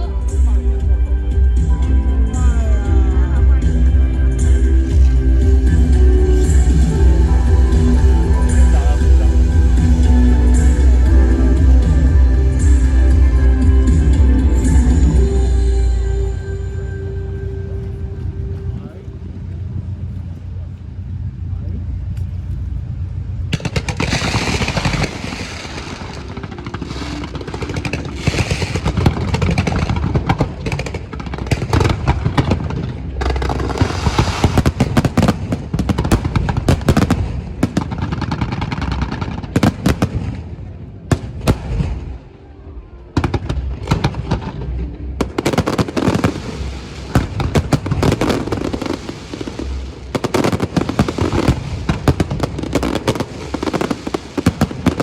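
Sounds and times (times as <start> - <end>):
fireworks bangs and crackles: 1.6 - 15.2, 23.5 - 42.4, 43.1 - 55.0.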